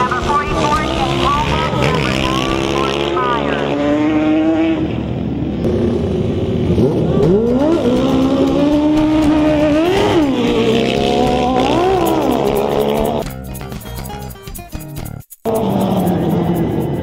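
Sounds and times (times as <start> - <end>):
quad bike engines racing: 0.0 - 13.3, 15.5 - 17.0.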